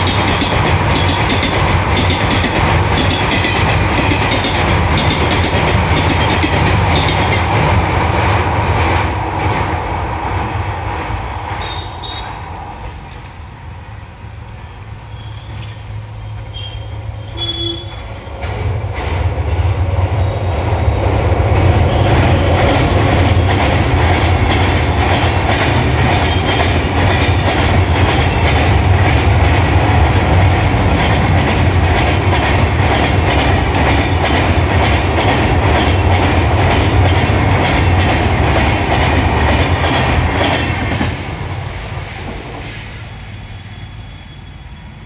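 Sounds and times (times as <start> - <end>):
wheels clickety-clack: 0.0 - 10.0, 11.4 - 41.3
train rumbling over bridge: 0.0 - 45.0.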